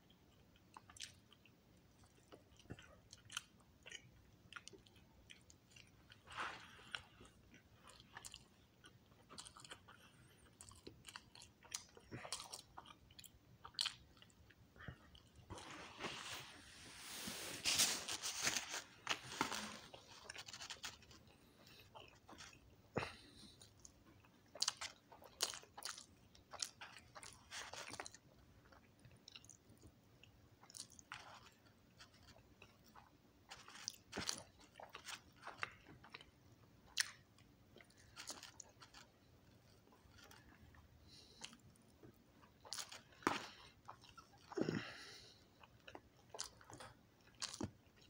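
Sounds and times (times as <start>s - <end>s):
person chewing crunchy food: 0.1s - 48.0s.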